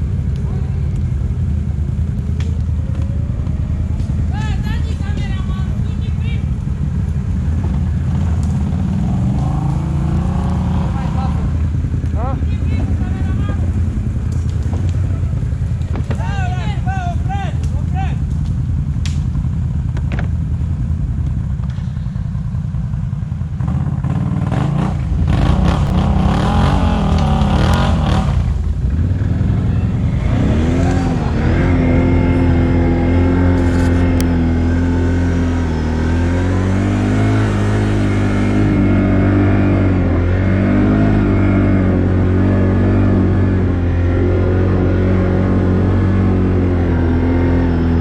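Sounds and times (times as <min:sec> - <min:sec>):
quad bike engine revving: 0:00.0 - 0:16.3, 0:23.4 - 0:48.0.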